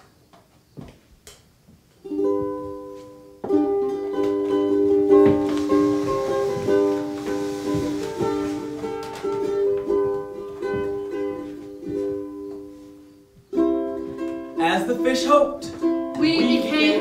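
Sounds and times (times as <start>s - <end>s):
ukulele picked melody: 2.0s - 17.0s.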